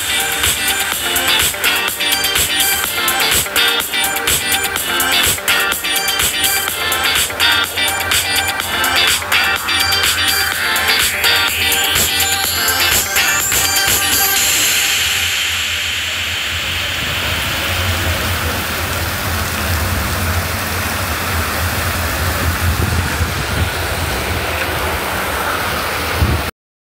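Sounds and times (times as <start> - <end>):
heavy rain pouring on street: 0.0 - 26.5.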